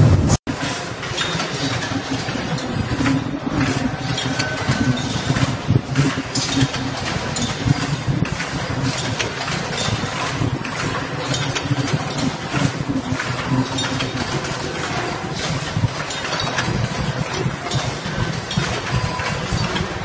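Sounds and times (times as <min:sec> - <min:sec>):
low machine hum: 0:00.0 - 0:20.0
machines clattering and clicking: 0:00.0 - 0:20.0.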